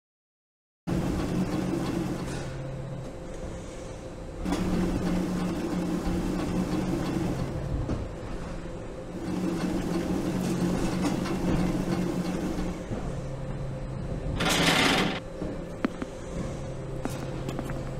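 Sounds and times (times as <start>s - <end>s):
conveyor belt machinery humming: 0.9s - 17.9s.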